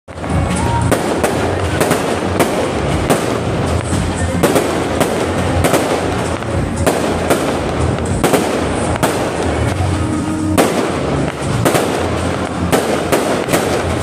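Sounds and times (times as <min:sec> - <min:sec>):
fireworks bangs: 0:00.1 - 0:14.0
fireworks crackling: 0:00.1 - 0:14.0.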